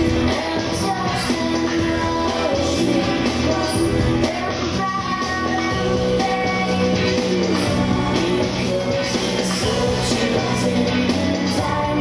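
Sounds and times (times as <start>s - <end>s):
song with singing voice: 0.0s - 12.0s.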